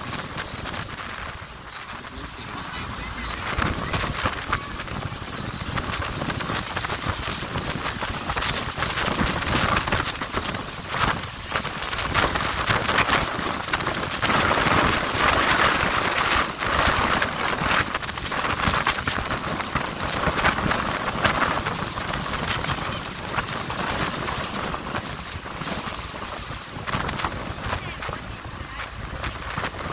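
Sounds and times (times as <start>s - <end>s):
wind and water rushing: 0.0s - 29.9s.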